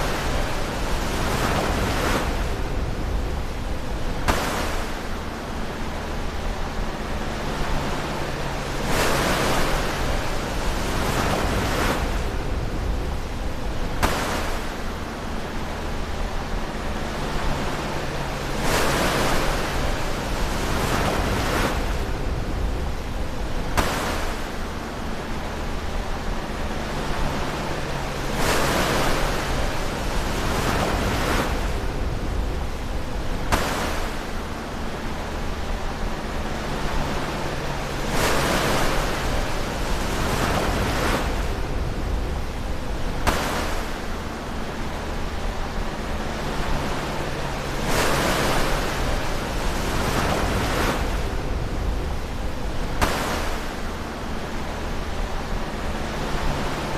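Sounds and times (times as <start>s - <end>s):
ocean waves breaking: 0.0s - 56.9s.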